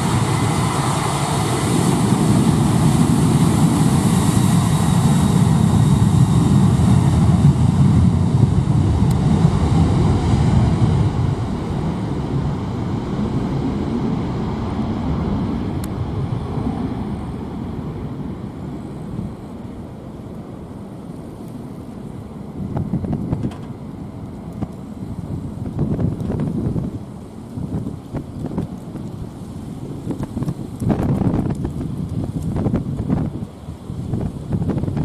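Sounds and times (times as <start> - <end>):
jet airliner engine rumble: 0.0 - 35.0.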